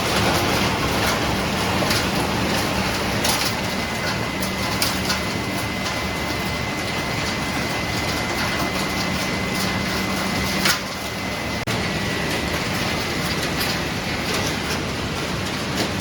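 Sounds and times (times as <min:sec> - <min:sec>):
industrial machinery din: 0:00.0 - 0:16.0.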